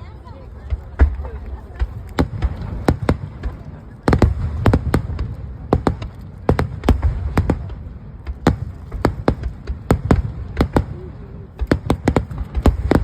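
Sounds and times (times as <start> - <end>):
fireworks bangs and cracks: 0.1 - 13.0.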